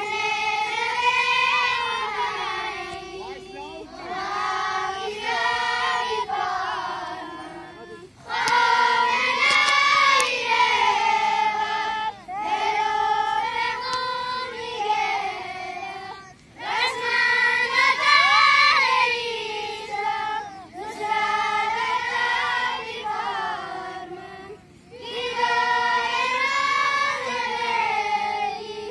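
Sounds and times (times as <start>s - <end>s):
children chanting in unison: 0.0s - 28.9s.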